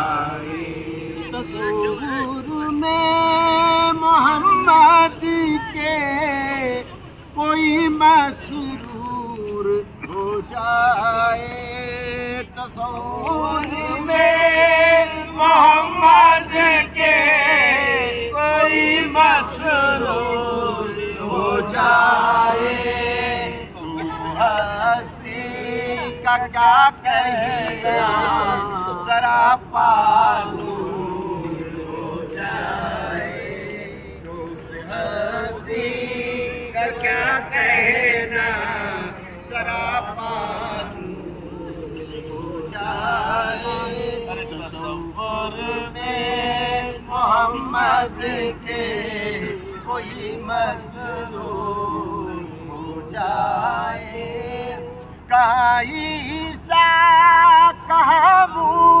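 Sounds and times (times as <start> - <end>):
man chanting: 0.0 - 59.0
man singing: 0.0 - 59.0.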